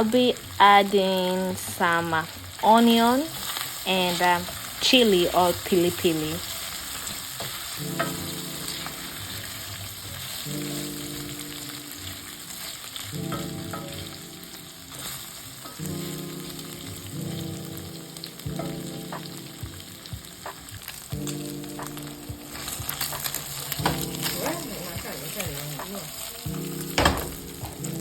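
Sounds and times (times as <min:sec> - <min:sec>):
meat sizzling in hot oil: 0:00.0 - 0:28.0.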